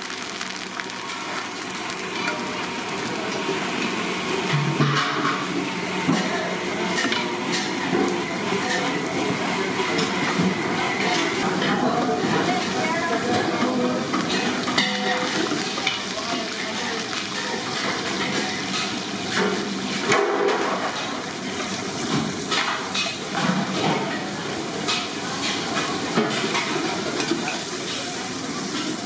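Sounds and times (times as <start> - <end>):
oil sizzling in a pot: 0.0 - 29.0.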